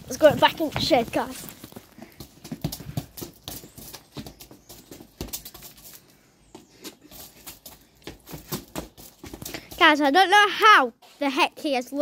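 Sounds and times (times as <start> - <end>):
football tapping on stone paving: 0.1 - 9.8.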